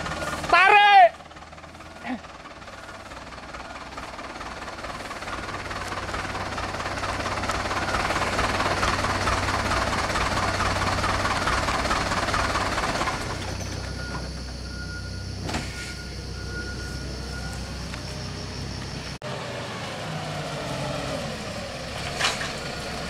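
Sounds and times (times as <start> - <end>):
diesel truck engine straining: 0.0 - 23.0.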